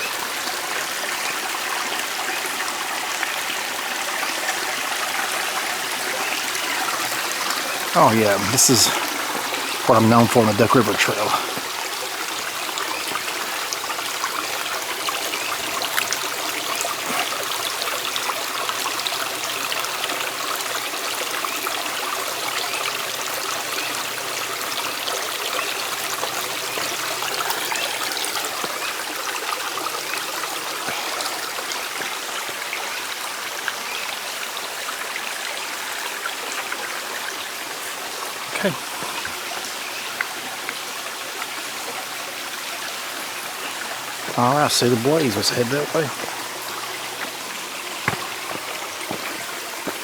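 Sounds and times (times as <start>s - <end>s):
small stream trickling: 0.0s - 50.0s.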